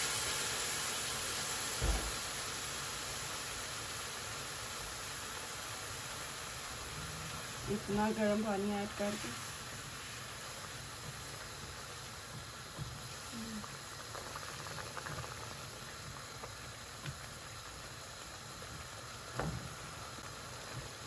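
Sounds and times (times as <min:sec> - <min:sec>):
water simmering in a frying pan: 0:00.0 - 0:21.0.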